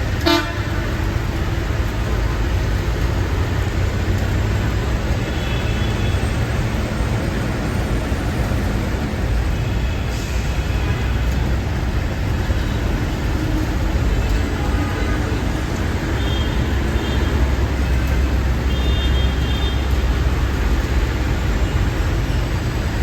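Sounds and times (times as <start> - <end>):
street traffic rumble: 0.0 - 23.0.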